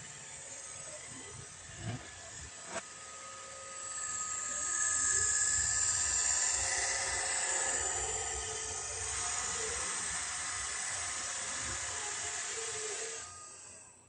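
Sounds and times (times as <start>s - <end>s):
robot vacuum motor whine: 0.0s - 14.0s.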